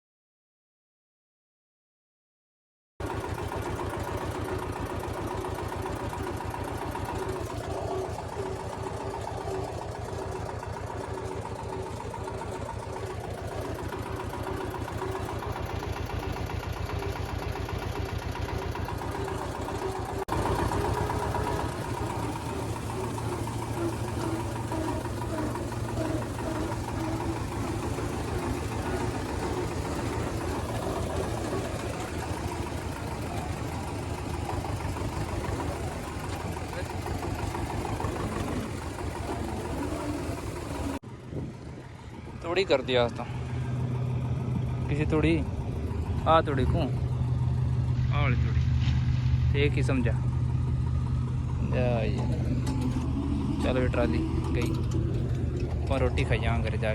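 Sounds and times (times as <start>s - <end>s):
tractor engine running: 3.0s - 56.9s.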